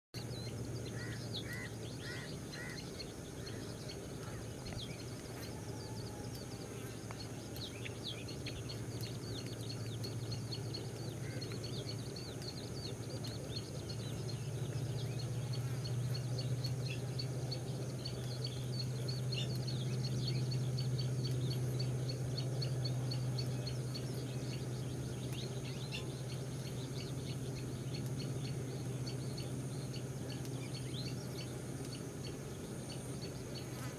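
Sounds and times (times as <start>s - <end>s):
birds chirping: 0.2s - 33.9s
steady low hum: 0.2s - 33.9s.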